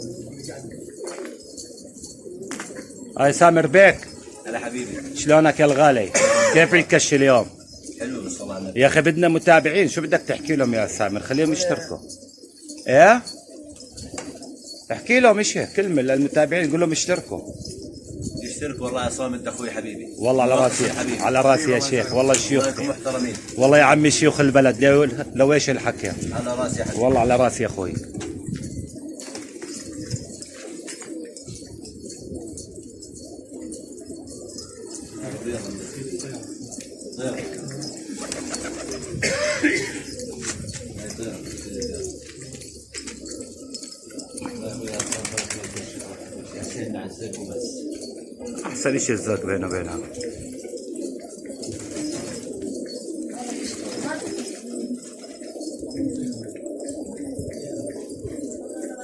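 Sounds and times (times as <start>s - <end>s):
pigeons cooing: 0.0s - 59.0s.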